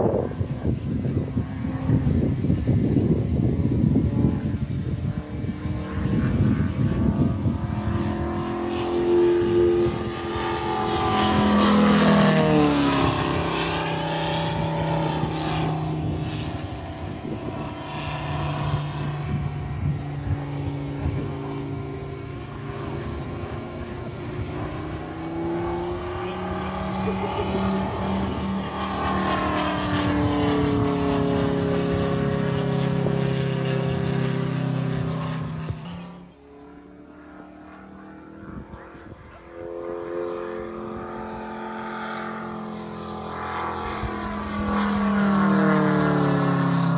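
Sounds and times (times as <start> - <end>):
model aircraft radial engine: 0.0 - 46.9.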